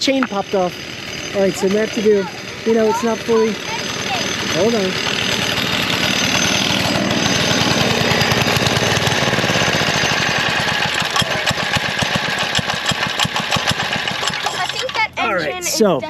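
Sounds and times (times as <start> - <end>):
small engine running unevenly: 0.0 - 16.0.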